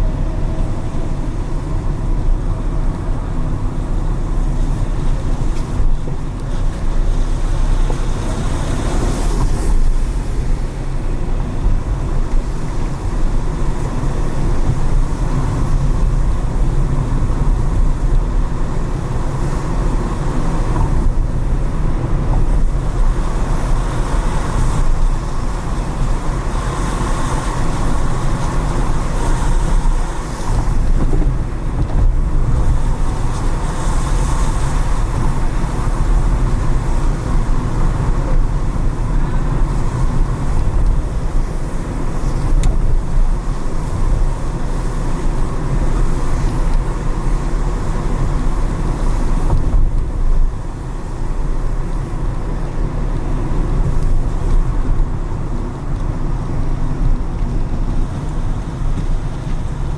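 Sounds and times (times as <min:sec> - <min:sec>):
car engine and tyre rumble: 0:00.0 - 0:59.9
traffic passing: 0:00.0 - 0:59.9.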